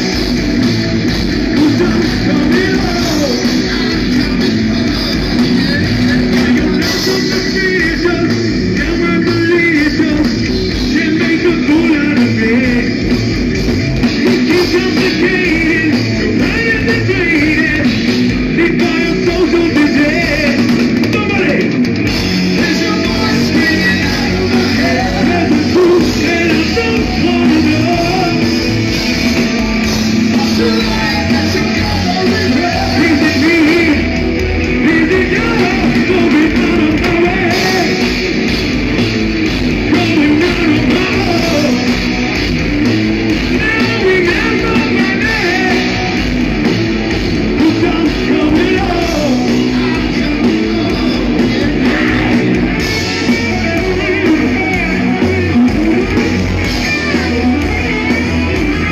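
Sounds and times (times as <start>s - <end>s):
live metal band playing: 0.0s - 58.9s
person singing: 1.4s - 13.0s, 14.2s - 20.7s, 22.5s - 38.2s, 39.8s - 42.1s, 43.4s - 46.2s, 47.5s - 58.9s.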